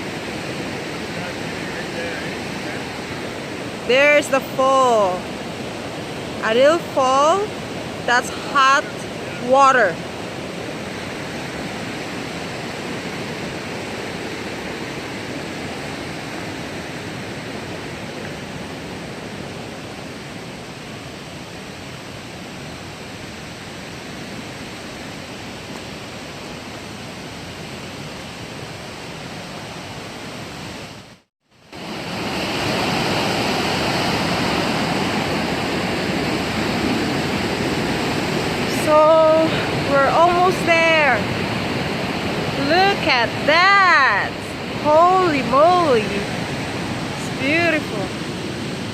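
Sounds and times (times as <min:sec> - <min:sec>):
small waterfall rushing: 0:00.0 - 0:48.9.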